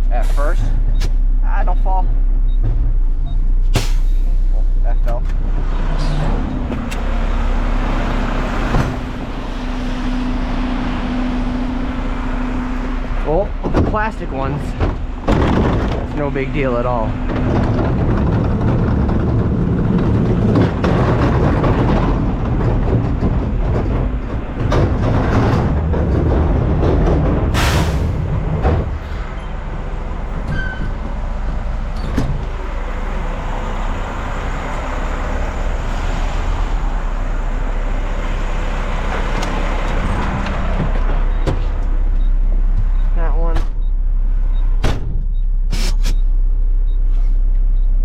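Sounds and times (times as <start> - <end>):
diesel truck engine running: 0.0 - 48.0.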